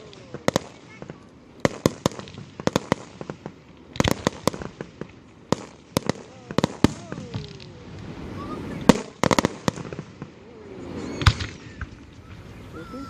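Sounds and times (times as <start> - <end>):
fireworks bursting with sharp bangs: 0.0 - 12.7.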